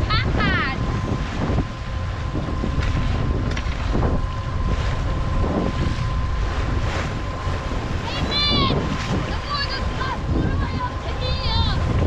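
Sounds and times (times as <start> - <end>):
water rushing past hull: 0.0 - 12.0
water splashing: 0.0 - 12.0
wind buffeting microphone: 0.0 - 12.0.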